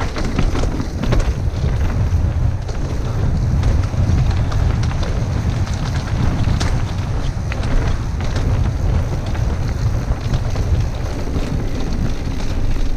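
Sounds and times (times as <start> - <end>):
bike clicks and rattles: 0.0 - 12.9
bike tyre rumble: 0.0 - 12.9
wind buffeting microphone: 0.0 - 12.9.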